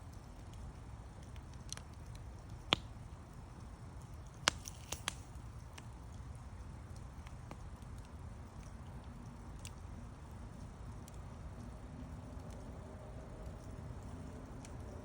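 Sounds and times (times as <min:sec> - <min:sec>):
low rumble of burning fire: 0:00.0 - 0:15.0
campfire pops and snaps: 0:00.1 - 0:12.7.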